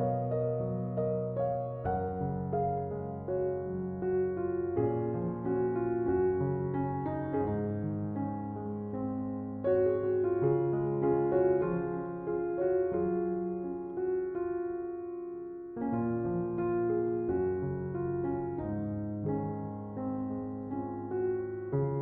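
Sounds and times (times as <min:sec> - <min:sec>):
slow calm piano music: 0:00.0 - 0:22.0.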